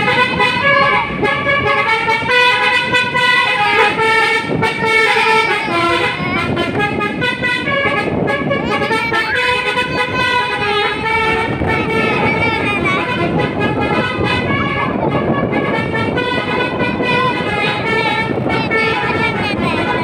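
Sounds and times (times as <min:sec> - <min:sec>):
multi-tone air horn tunes: 0:00.0 - 0:20.0
truck engine rumble: 0:00.0 - 0:20.0.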